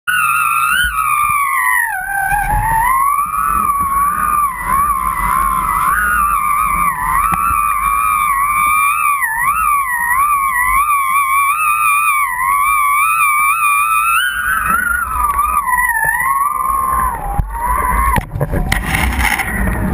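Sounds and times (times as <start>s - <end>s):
kite lines humming: 0.0s - 19.9s
wind rumble on microphone: 0.7s - 11.6s, 12.2s - 19.9s.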